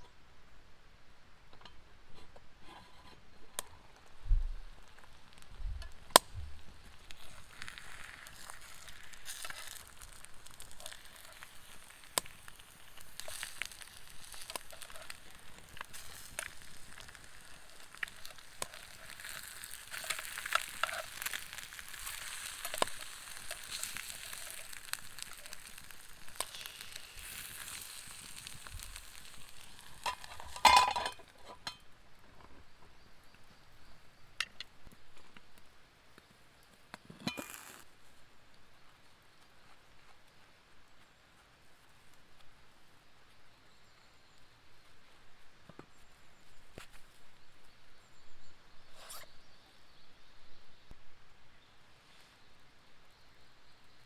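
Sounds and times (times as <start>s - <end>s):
campfire sizzling and crackling: 2.2s - 49.3s.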